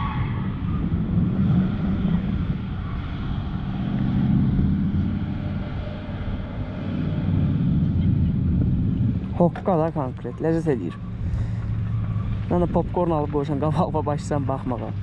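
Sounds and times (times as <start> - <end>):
distant car engines droning: 0.0 - 15.0.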